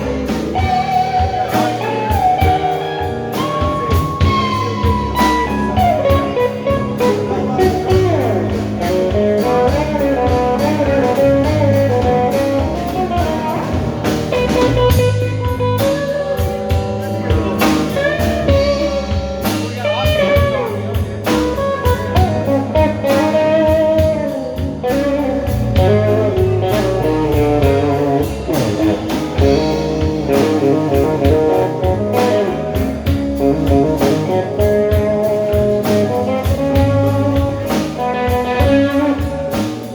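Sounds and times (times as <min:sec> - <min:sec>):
bass and drum kit: 0:00.0 - 0:39.9
lead guitar soloing: 0:00.0 - 0:39.9.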